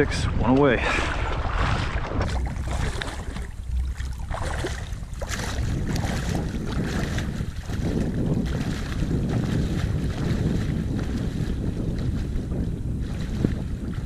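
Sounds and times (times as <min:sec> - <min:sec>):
water sloshing and splashing: 0:00.0 - 0:14.0
wind buffeting microphone: 0:00.0 - 0:14.0.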